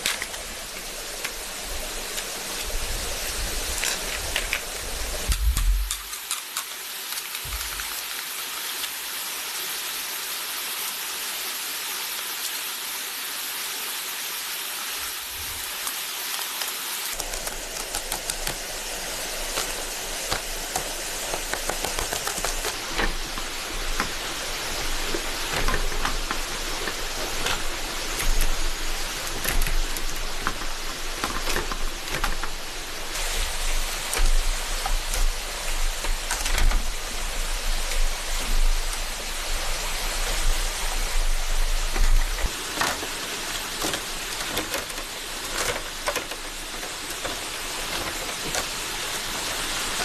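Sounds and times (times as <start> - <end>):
raindrops pattering on a surface: 0.0 - 9.0, 15.2 - 50.0
rain falling in forest: 0.0 - 50.0.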